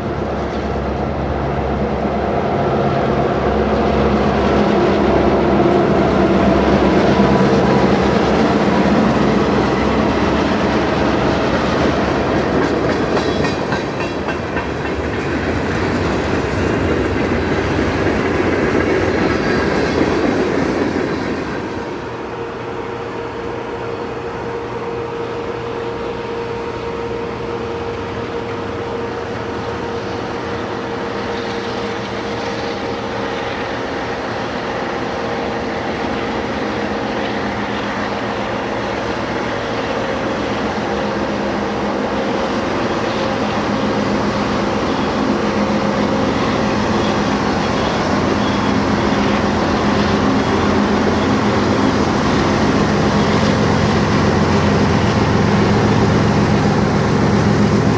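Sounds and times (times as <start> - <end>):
train rumbling past: 0.0 - 57.9.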